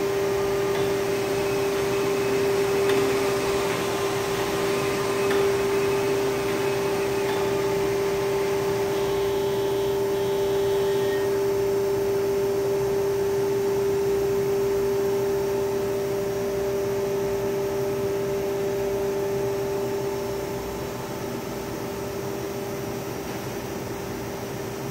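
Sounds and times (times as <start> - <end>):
printer machine hum with tone: 0.0 - 24.9.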